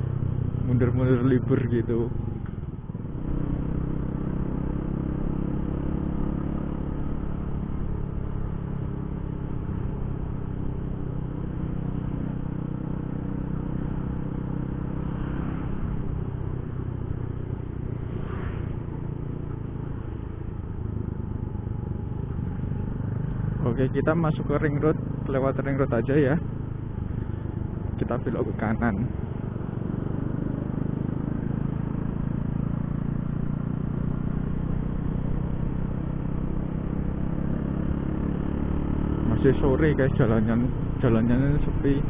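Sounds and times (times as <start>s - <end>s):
motorcycle engine running: 0.0s - 42.0s
road noise: 0.0s - 42.0s.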